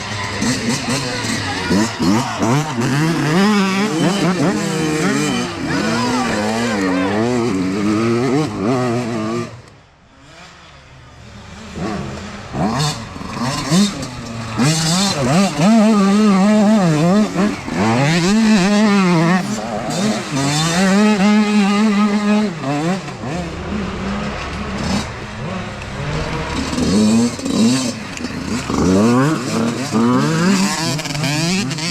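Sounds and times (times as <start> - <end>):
dirt bike engines revving: 0.0 - 31.9.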